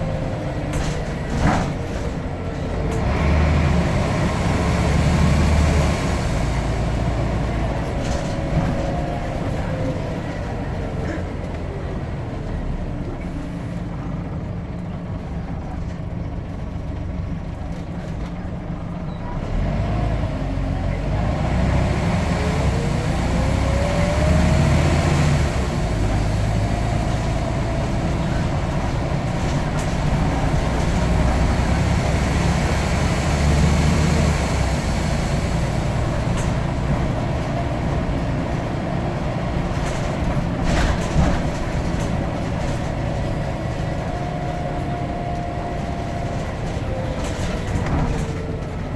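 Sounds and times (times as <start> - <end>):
bus diesel engine whining: 0.0 - 48.9.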